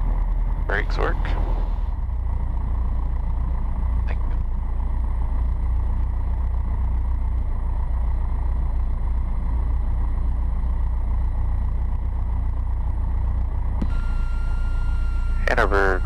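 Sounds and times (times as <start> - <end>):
aircraft engine drone: 0.0 - 9.5, 10.8 - 16.0.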